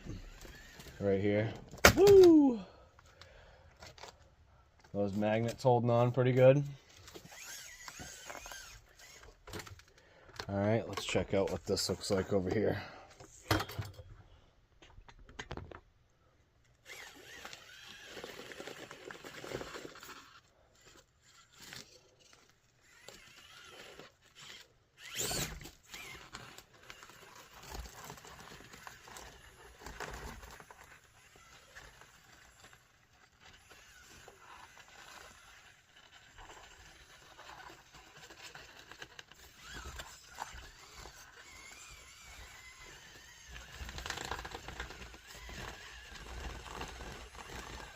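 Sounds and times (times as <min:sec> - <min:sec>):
toy car tyres scraping and tapping: 0:00.0 - 0:01.8, 0:02.6 - 0:14.0, 0:16.7 - 0:47.9.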